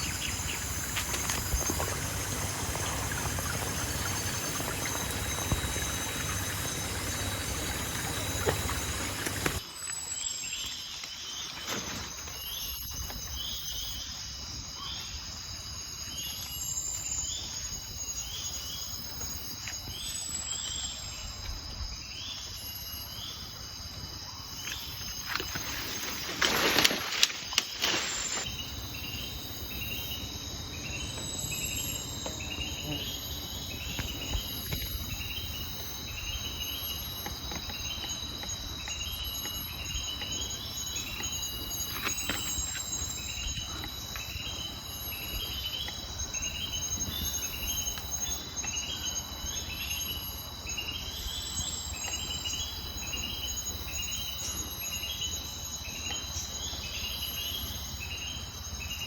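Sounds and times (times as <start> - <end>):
high insect drone: 0.0 - 59.0
insect chirping: 0.0 - 59.0.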